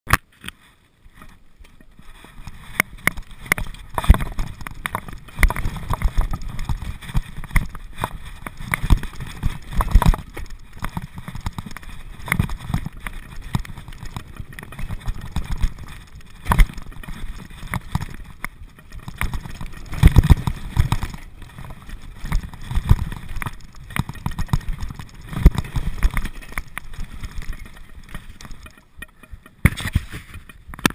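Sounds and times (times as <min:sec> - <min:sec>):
bike knocks and rattles: 0:00.1 - 0:30.9
bike tyres rumbling on mud: 0:00.2 - 0:30.9.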